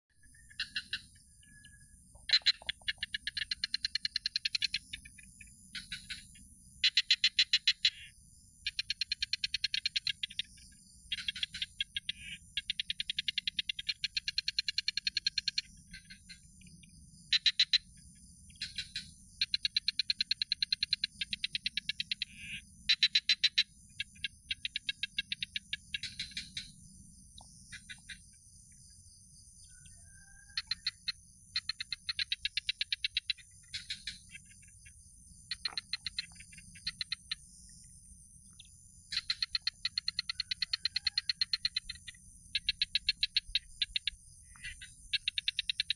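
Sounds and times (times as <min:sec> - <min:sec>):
animal pulsed chirping call: 0:00.2 - 0:16.6, 0:17.3 - 0:26.8, 0:29.6 - 0:37.6, 0:38.5 - 0:45.9.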